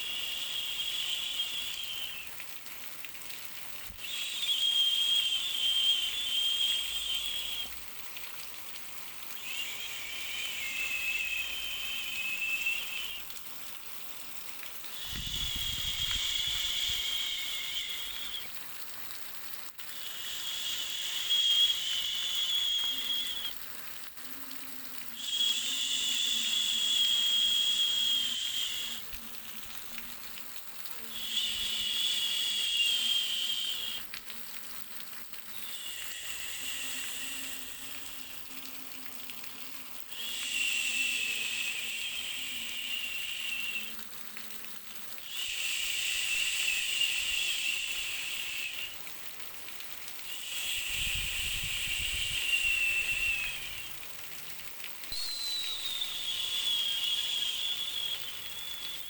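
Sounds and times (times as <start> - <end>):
high whistling hiss: 0.0 - 59.0.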